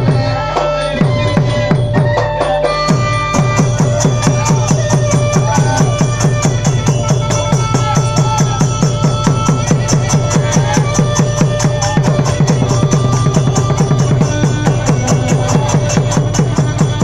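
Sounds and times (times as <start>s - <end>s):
fast even drumming: 0.0s - 17.0s.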